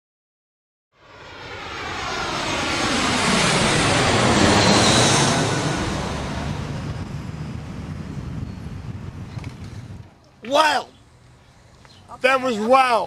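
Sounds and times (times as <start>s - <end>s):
airplane passing overhead: 0.9s - 13.0s.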